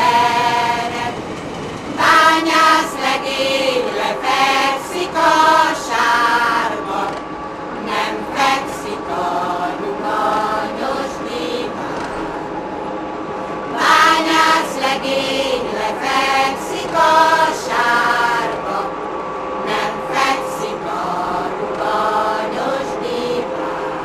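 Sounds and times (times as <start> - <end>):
choir singing long held notes: 0.0 - 24.0.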